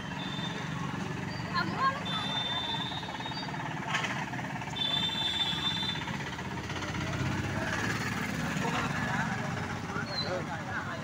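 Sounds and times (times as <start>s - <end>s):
vehicle engines running: 0.0s - 11.0s.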